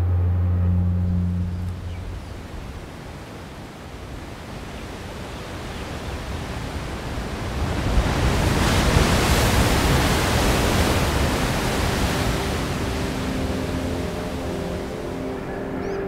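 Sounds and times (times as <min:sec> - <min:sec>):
ocean wave rushing: 0:00.0 - 0:15.8.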